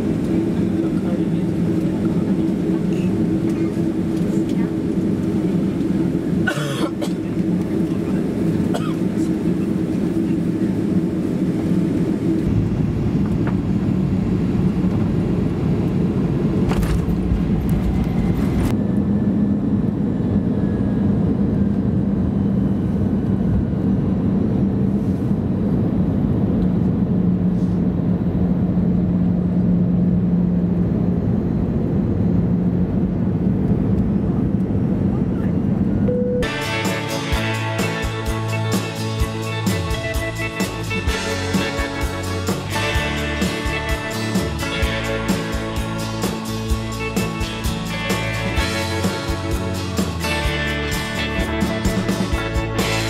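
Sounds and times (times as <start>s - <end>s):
airliner cabin engine drone: 0.0s - 53.0s
low hum: 0.0s - 53.0s.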